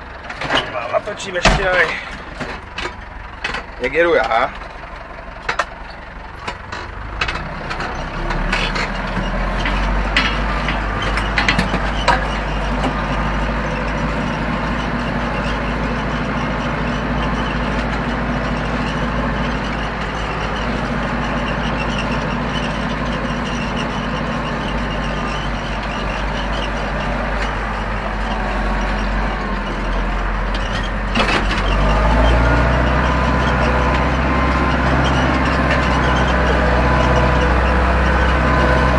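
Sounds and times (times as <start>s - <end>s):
knocks and rattles: 0.0s - 38.9s
tractor diesel engine running: 0.0s - 38.9s.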